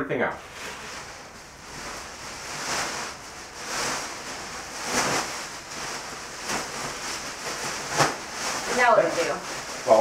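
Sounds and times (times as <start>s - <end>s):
plastic bags rustling: 0.4s - 10.0s.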